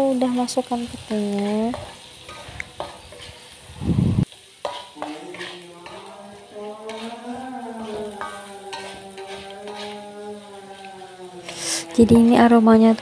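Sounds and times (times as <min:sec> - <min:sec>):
paste sizzling in a pan: 0:00.0 - 0:13.0
spatula scraping in a pan: 0:00.2 - 0:12.6.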